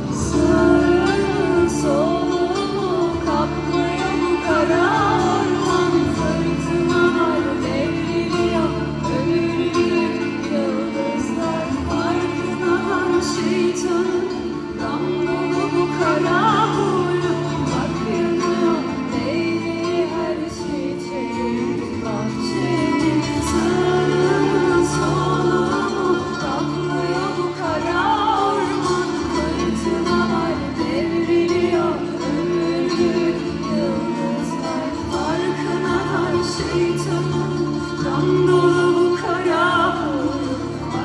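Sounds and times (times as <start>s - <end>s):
band with kanun playing: 0.0s - 41.0s
person singing: 0.0s - 41.0s.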